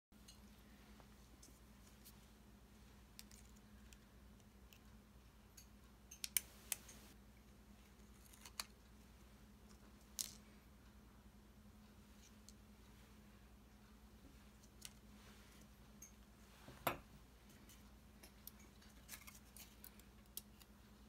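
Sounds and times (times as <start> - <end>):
faint steady hum: 0.2 - 21.0.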